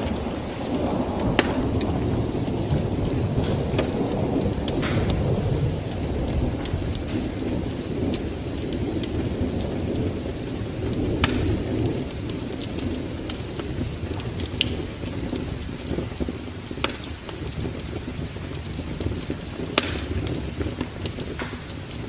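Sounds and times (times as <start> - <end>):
fire crackles and pops: 0.0 - 22.0
fire flames rushing: 0.0 - 22.0.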